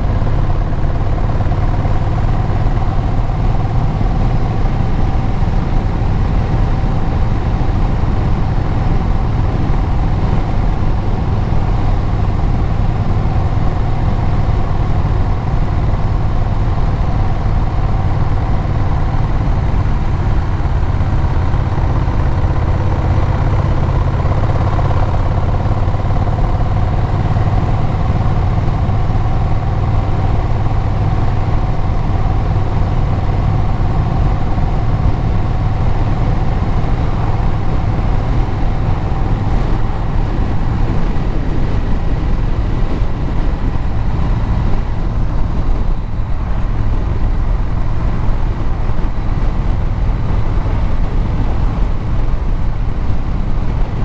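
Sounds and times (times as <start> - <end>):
road noise: 0.0 - 54.0
vehicle engine and exhaust running: 0.0 - 54.0.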